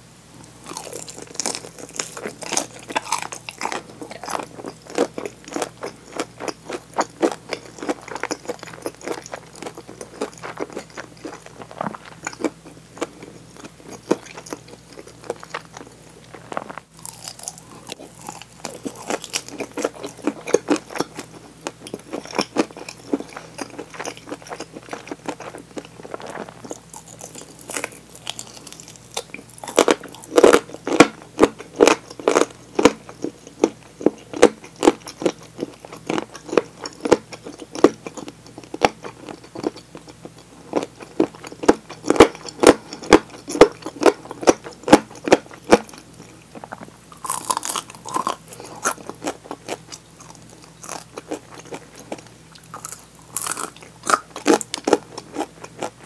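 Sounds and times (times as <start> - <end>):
crunchy chewing of fried chicken: 0.4 - 56.0.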